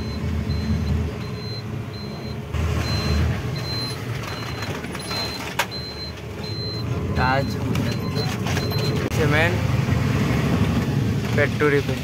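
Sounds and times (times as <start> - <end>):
engine running low: 0.0 - 12.0.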